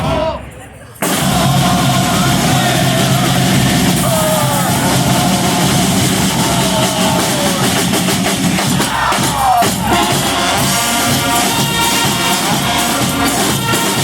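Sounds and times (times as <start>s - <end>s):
brass band playing: 1.0s - 14.0s.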